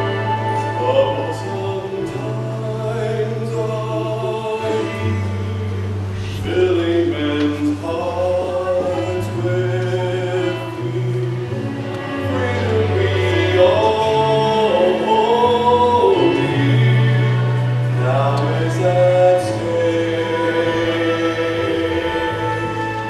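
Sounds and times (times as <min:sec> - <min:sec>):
men singing in close harmony: 0:00.4 - 0:05.4, 0:06.2 - 0:23.0.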